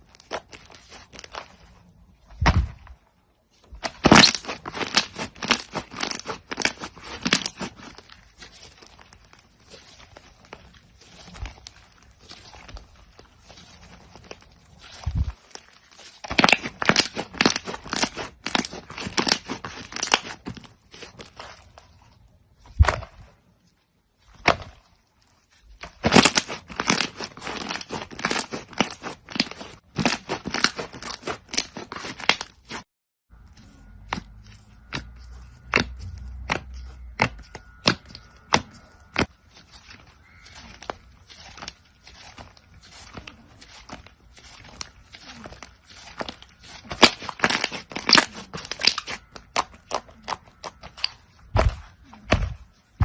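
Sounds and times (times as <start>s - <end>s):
crunchy slime crackling and popping: 0.0s - 3.0s, 3.7s - 21.9s, 24.2s - 32.8s, 33.4s - 53.0s.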